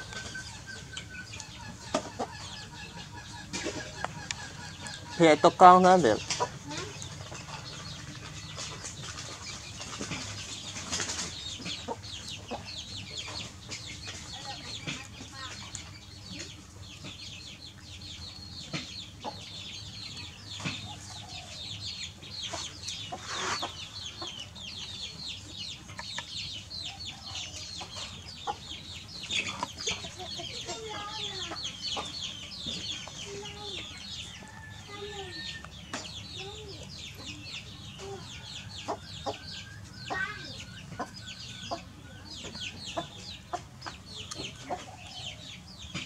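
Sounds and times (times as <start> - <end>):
chickens cheeping: 0.0 - 46.0
chickens clucking: 0.0 - 46.0.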